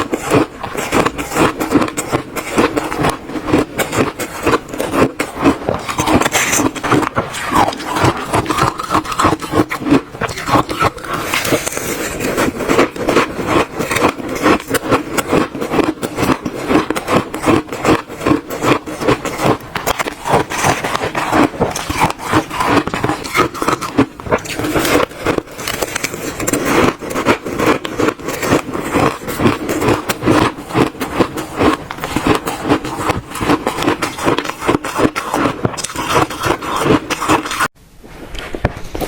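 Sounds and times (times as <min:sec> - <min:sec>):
chewing crunchy shaved ice: 0:00.0 - 0:37.8.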